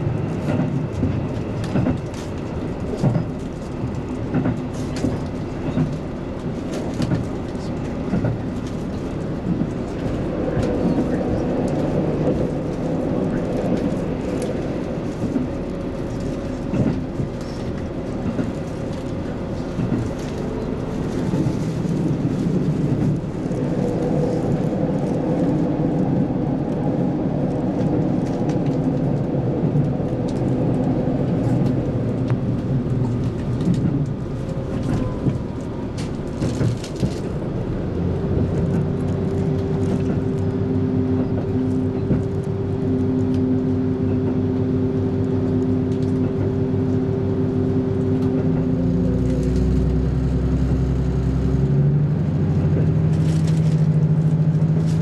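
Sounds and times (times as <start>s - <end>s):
engine hum with held tones: 0.0s - 55.0s
train rumble and wheels on rails: 0.0s - 55.0s.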